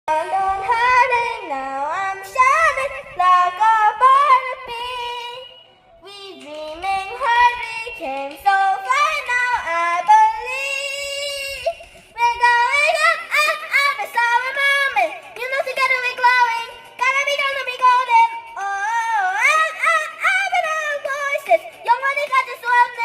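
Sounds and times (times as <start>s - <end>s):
high voice singing: 0.1s - 23.0s.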